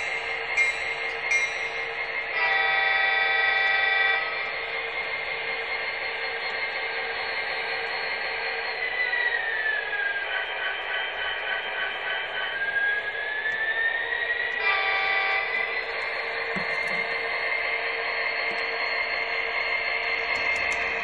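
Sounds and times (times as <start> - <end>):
recorded diesel engine drone: 0.0 - 21.0.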